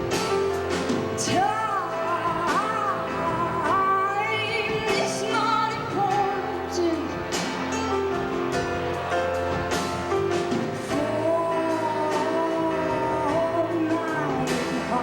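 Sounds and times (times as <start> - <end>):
person singing: 0.0 - 7.9, 10.7 - 15.0
live band playing: 0.0 - 15.0.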